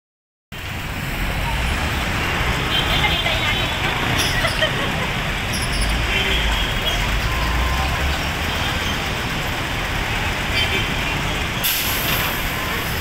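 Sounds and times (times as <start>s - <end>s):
city traffic: 0.5s - 13.0s
heavy truck engine rumble: 0.6s - 13.0s.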